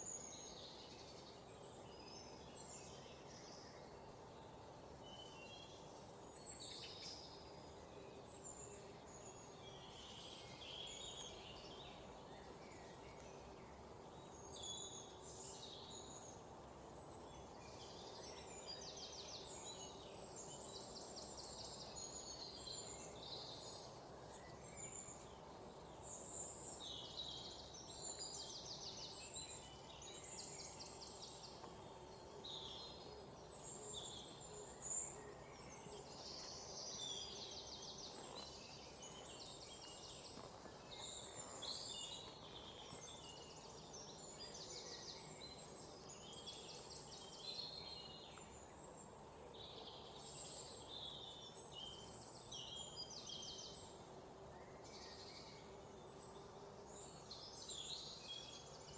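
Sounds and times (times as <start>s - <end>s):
low background hiss: 0.0s - 58.9s
small birds chirping and trilling: 0.0s - 58.9s.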